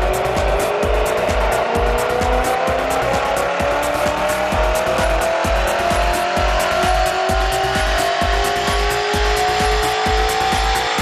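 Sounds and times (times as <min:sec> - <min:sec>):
car engine revving on dyno: 0:00.0 - 0:11.0
music with steady beat: 0:00.0 - 0:11.0.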